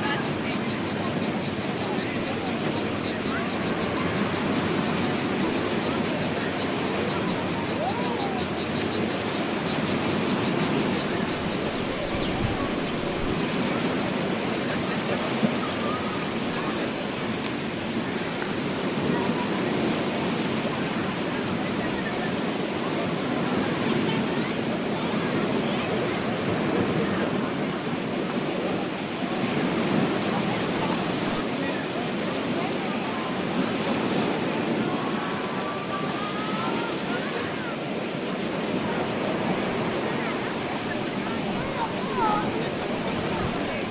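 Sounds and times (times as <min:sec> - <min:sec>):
high pulsing insect trill: 0:00.0 - 0:43.9
wind: 0:00.0 - 0:43.9.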